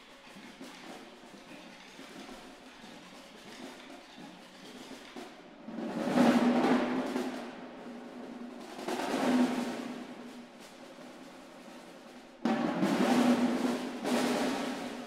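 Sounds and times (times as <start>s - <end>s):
snare drum roll: 0.0s - 15.0s.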